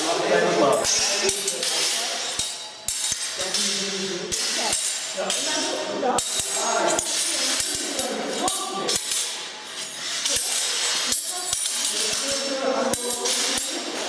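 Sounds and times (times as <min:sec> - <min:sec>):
voices: 0:00.0 - 0:02.6, 0:03.2 - 0:14.0
steel swords clashing: 0:00.0 - 0:14.0.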